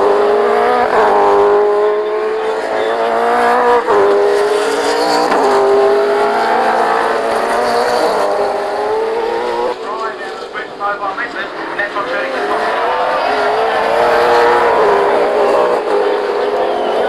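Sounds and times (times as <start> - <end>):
racing car engine revving high: 0.0 - 17.0.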